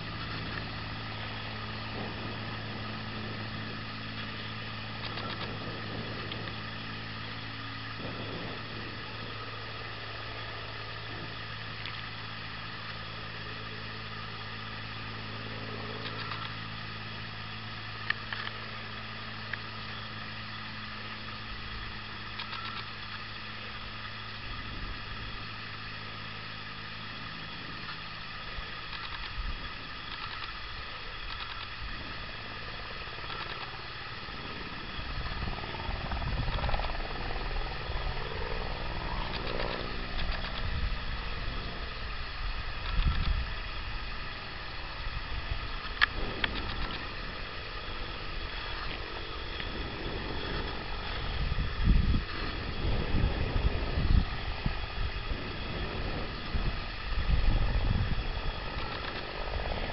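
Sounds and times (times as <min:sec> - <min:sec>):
low rumble: 0:00.0 - 0:16.4, 0:27.1 - 0:59.9
distant aircraft engine drone: 0:00.0 - 0:59.9.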